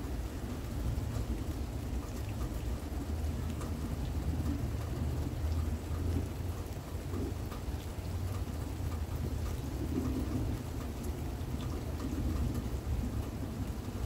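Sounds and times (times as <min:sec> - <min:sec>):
low rumble of thunder: 0:00.0 - 0:14.0
rain falling steadily: 0:00.0 - 0:14.0
raindrops ticking close by: 0:00.0 - 0:14.0.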